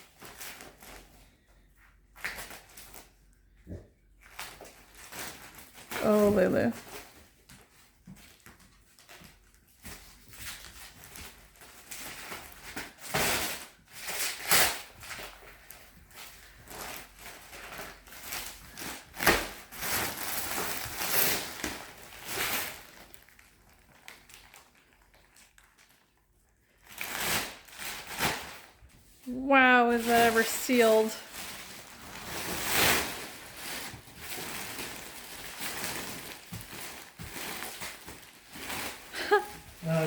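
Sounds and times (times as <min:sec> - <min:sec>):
plastic wrapping crinkling and tearing: 0:00.0 - 0:03.4, 0:04.2 - 0:40.0.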